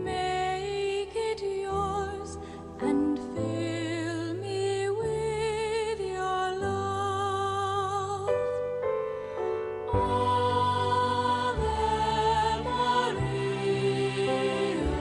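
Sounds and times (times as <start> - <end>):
slow gentle sacred music: 0.0 - 15.0.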